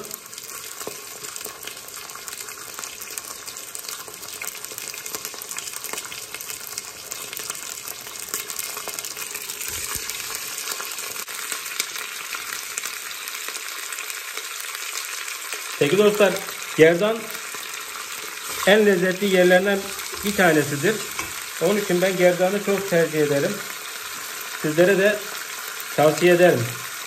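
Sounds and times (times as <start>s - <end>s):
meat sizzling in hot oil: 0.0s - 27.0s.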